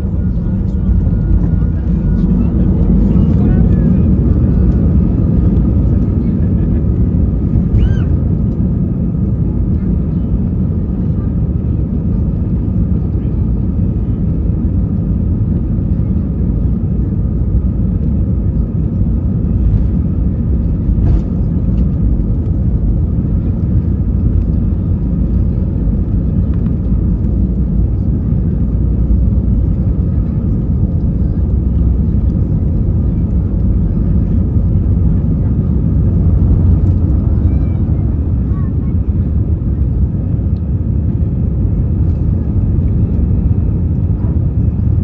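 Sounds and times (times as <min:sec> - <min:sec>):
jet engine rumble in cabin: 0:00.0 - 0:45.0.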